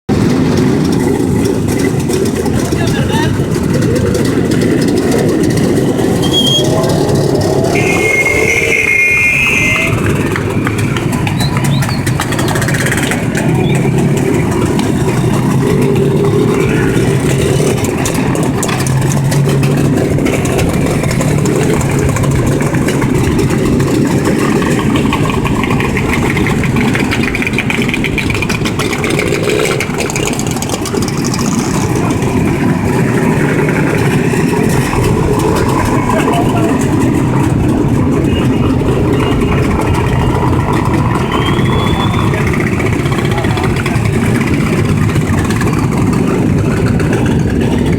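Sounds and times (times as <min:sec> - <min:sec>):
two-stroke motorcycle engines: 0:00.1 - 0:47.9.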